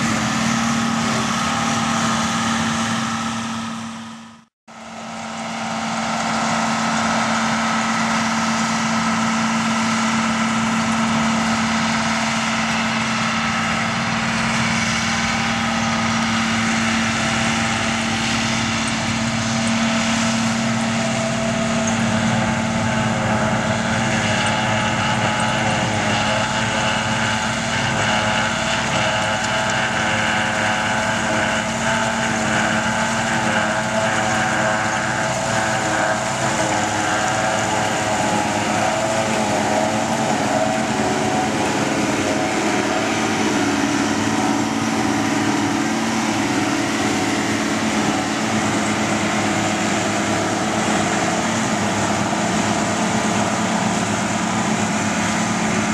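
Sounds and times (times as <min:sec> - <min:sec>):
farm machinery low hum: 0:00.0 - 0:55.9
higher whining tones: 0:00.0 - 0:55.9.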